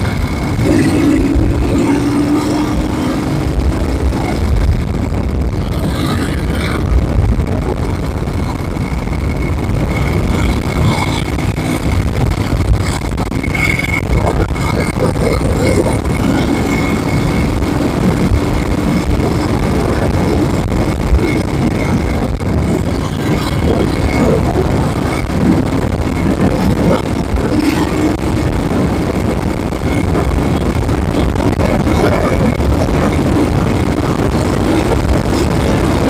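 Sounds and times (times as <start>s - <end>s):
motorcycle engine running: 0.0s - 36.0s
wind noise: 0.0s - 36.0s.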